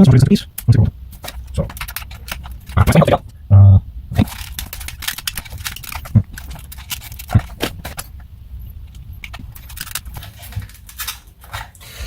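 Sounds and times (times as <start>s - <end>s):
plastic parts clicking and rattling: 0.1s - 3.4s, 4.1s - 12.0s.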